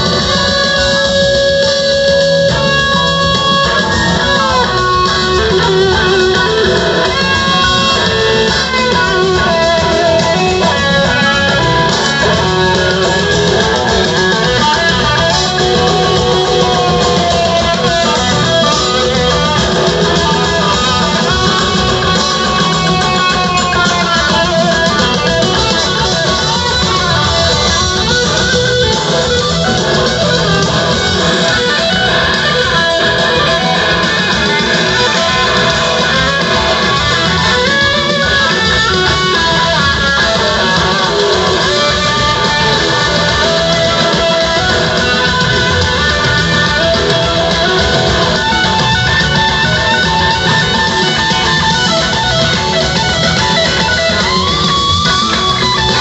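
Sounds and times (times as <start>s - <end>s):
electric guitar lead: 0.0s - 56.0s
live rock band playing: 0.0s - 56.0s.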